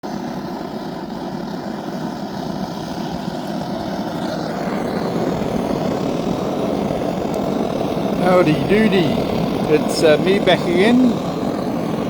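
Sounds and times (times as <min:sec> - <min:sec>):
blowtorch flame rushing: 0:00.0 - 0:12.0.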